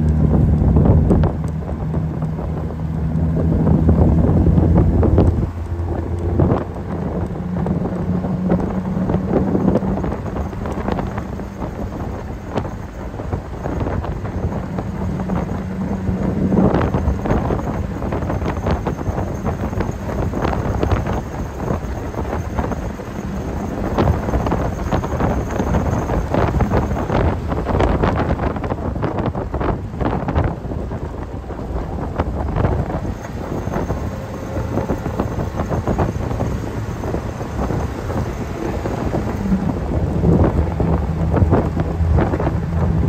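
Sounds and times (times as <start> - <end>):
car engine running: 0.0 - 43.0
wind buffeting microphone: 0.0 - 43.0.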